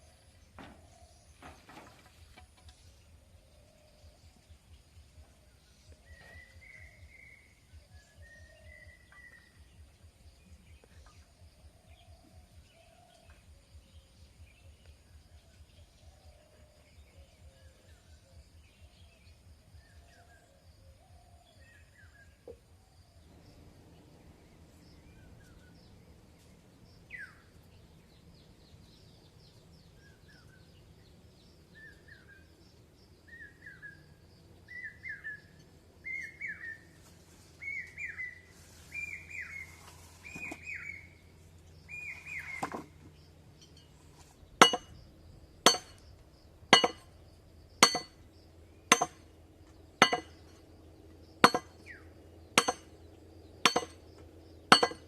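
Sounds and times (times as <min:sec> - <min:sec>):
faint bird chirps: 0:00.0 - 0:49.2
low pulsing hum: 0:02.8 - 0:55.0.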